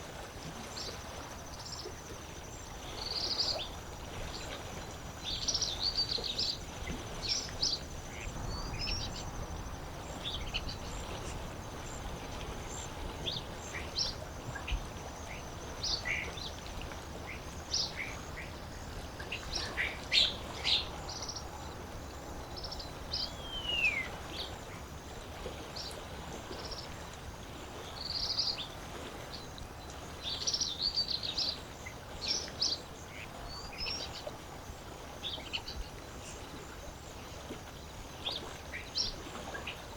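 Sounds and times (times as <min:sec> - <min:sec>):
lake water washing: 0:00.0 - 0:39.9.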